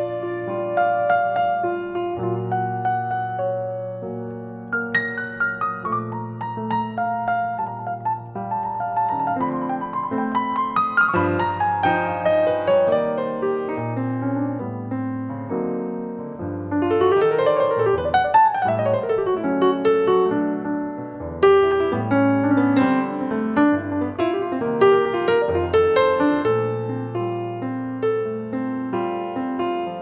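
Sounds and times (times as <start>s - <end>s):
jazz piano: 0.0s - 30.0s.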